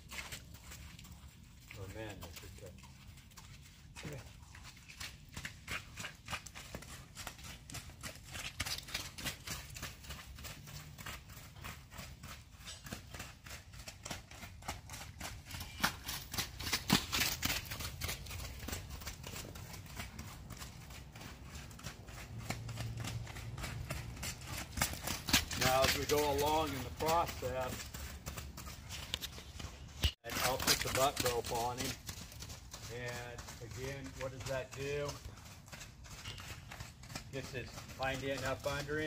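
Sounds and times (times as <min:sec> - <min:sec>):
horse hooves trotting on sand: 0:00.0 - 0:39.0.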